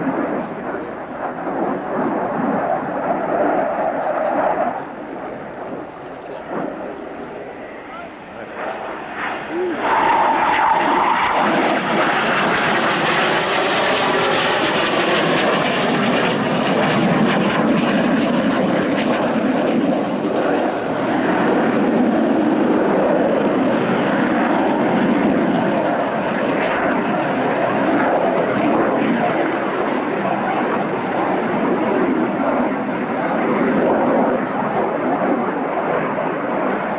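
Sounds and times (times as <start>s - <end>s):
aircraft engine roaring: 0.0s - 36.9s.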